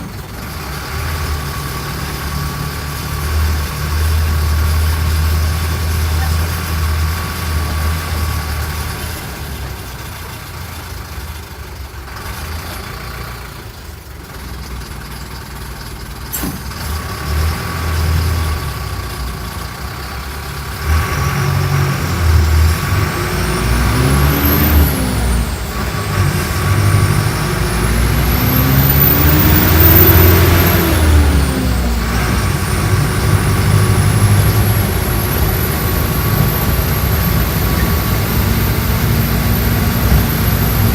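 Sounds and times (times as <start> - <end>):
bus engine revving: 0.0 - 40.9.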